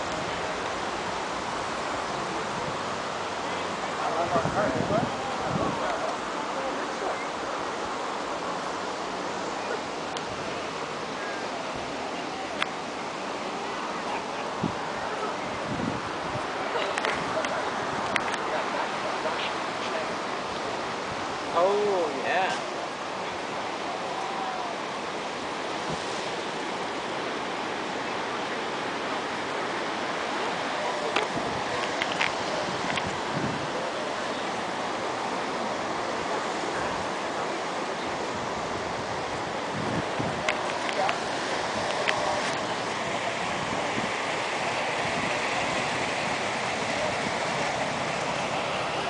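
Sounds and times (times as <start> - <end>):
distant people talking: 0.0 - 25.4, 26.3 - 49.0
lake surf: 0.0 - 49.0
outdoor background hiss: 0.0 - 49.0
wind: 0.0 - 49.0.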